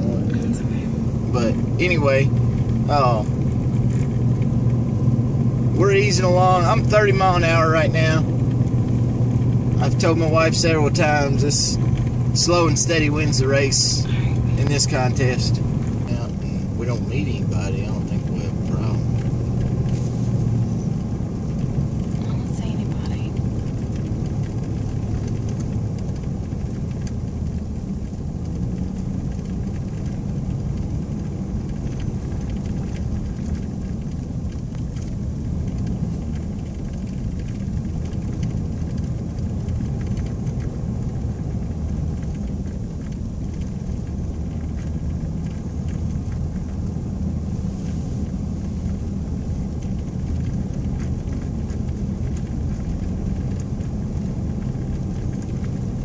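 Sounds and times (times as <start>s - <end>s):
pickup engine rumble in cab: 0.0s - 56.0s
tires on snowy road: 0.0s - 56.0s.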